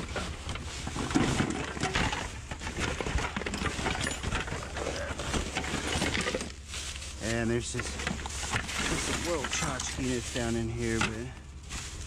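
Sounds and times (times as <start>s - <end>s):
metal and plastic objects clattering: 0.0s - 11.4s.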